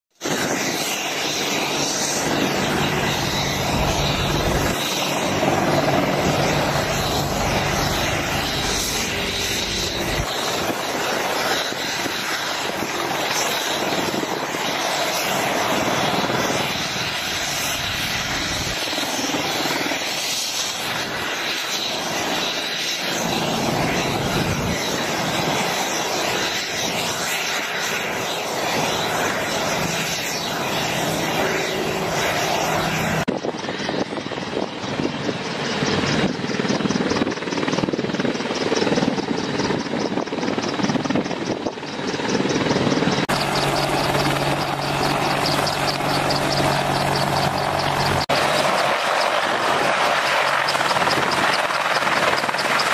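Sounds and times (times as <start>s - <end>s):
helicopter rotor and engine noise: 0.1s - 52.9s
high turbine whine: 0.1s - 52.9s.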